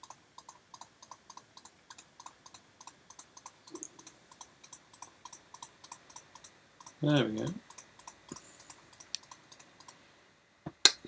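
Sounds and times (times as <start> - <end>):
mouse button clicking: 0.0 - 10.0.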